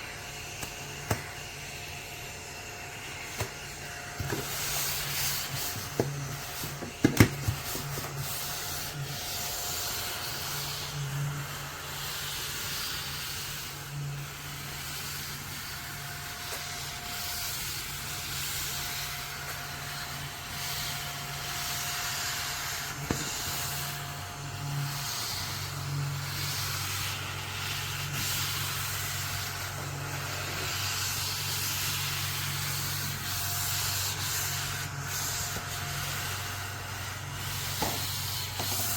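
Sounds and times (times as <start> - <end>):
mini vacuum cleaner running: 0.0 - 38.9.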